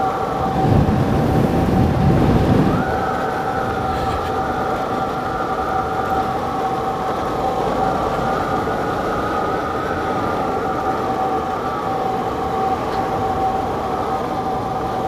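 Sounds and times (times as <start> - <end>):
heavy low rumble: 0.0 - 15.0
steady engine whine: 0.0 - 15.0.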